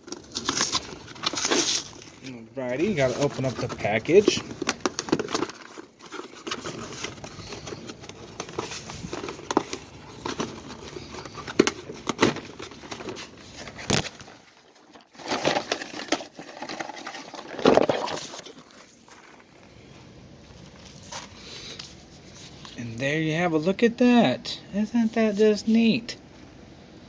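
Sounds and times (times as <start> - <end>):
packaging rustling and crinkling: 0.0 - 19.8, 20.4 - 22.8.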